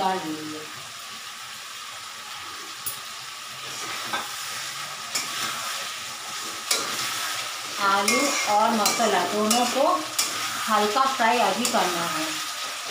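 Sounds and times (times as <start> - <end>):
potatoes frying in oil: 0.0 - 12.9.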